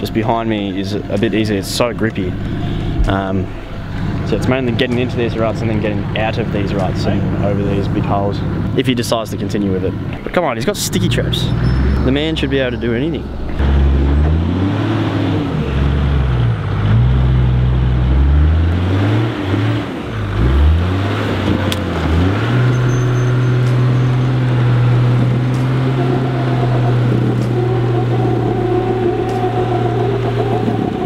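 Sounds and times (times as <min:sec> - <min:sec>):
high whine: 0:00.0 - 0:16.8, 0:21.2 - 0:31.0
car engine revving: 0:00.0 - 0:31.0.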